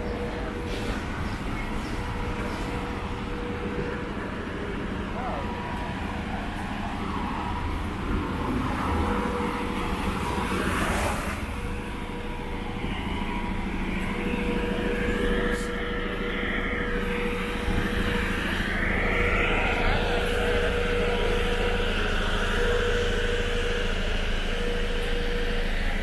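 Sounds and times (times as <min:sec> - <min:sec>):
steady engine hum: 0:00.0 - 0:26.0.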